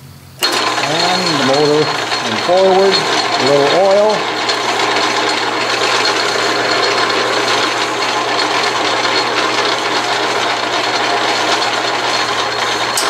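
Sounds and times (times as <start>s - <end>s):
low motor hum: 0.4s - 13.0s
metal lathe gear noise: 0.4s - 13.0s.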